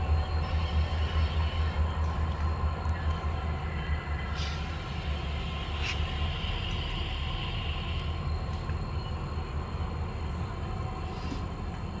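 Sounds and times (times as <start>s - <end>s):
freight train rumbling by: 0.0s - 12.0s.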